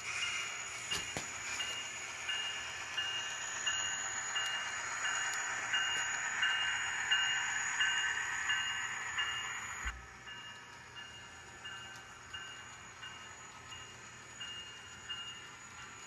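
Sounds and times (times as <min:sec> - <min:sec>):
model locomotive diesel sound: 0:00.0 - 0:16.0.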